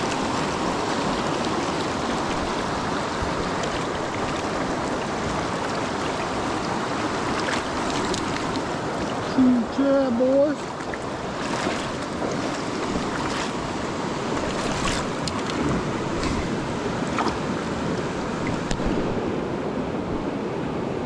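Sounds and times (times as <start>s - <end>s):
faint water splashes: 0.0s - 19.3s
stream rushing over stones: 0.0s - 21.0s.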